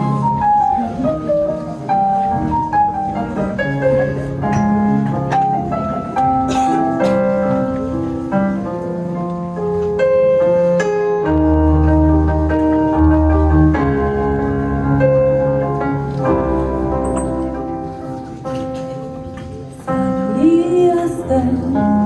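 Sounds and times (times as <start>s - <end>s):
piano-like keyboard chords: 0.0s - 22.0s.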